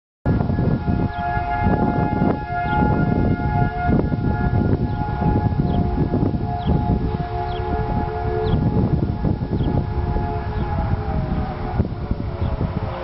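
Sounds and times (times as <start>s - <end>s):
warning sirens: 0.3s - 13.0s
wind buffeting microphone: 0.3s - 13.0s.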